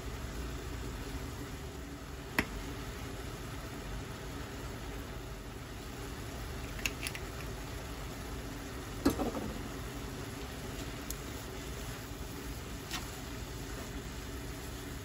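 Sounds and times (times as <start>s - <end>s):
kitchen fan humming: 0.0s - 15.0s.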